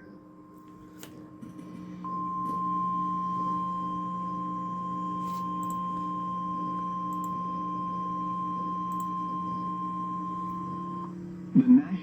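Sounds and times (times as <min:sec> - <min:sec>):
steady pure alarm tone: 0:00.0 - 0:11.5
faint low hum: 0:00.0 - 0:12.0.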